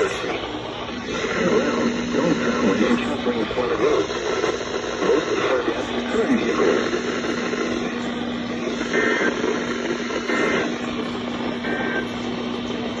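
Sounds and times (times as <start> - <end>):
receiver hiss and hum: 0.0 - 13.0.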